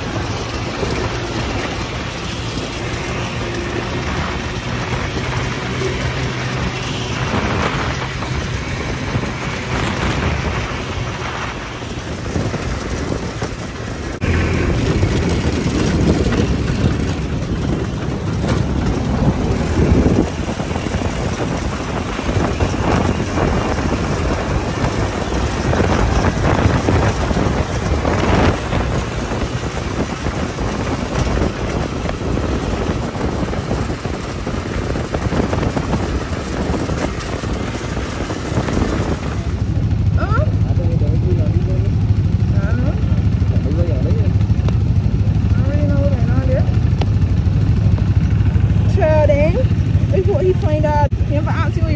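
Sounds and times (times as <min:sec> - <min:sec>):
tyres on gravel: 0:00.0 - 0:42.5
buggy engine running: 0:00.0 - 0:51.9
wind buffeting microphone: 0:00.0 - 0:51.9.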